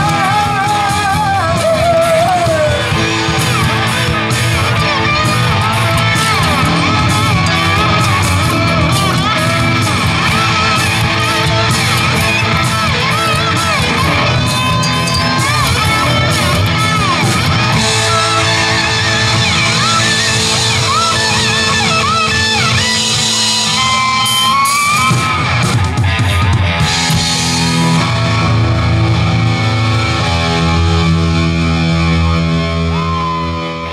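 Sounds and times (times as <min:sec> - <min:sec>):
bending electric guitar lead: 0:00.0 - 0:33.9
rock band playing loudly: 0:00.0 - 0:33.9.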